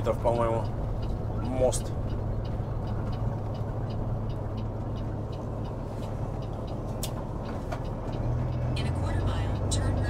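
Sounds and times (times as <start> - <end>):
diesel truck engine droning: 0.0 - 10.0
faint light ticking: 0.0 - 10.0
road noise: 0.0 - 10.0.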